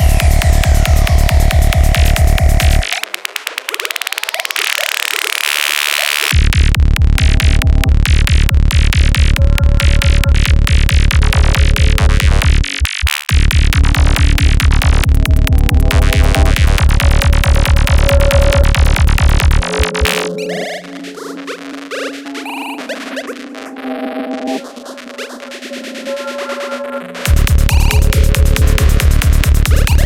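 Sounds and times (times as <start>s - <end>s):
electronic dance music: 0.0s - 5.4s, 6.0s - 30.0s.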